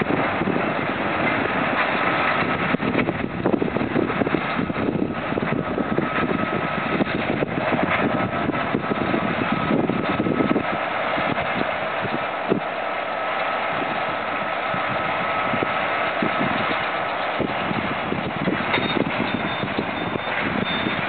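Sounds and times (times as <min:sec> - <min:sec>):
tractors droning: 0:00.0 - 0:21.0.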